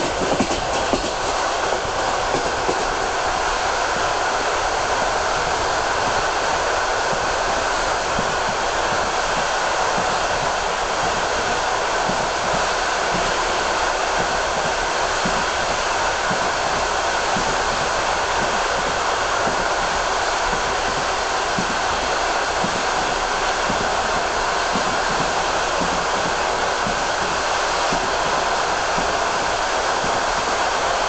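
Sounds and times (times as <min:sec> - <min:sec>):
train wheels rushing on rails: 0:00.0 - 0:31.0.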